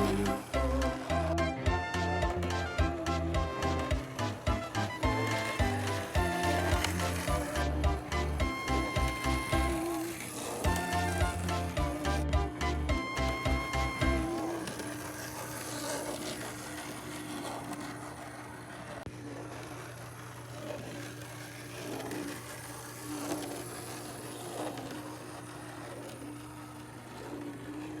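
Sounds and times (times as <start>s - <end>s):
small motor whining: 0.0s - 28.0s
wheels rattling along track: 0.0s - 28.0s.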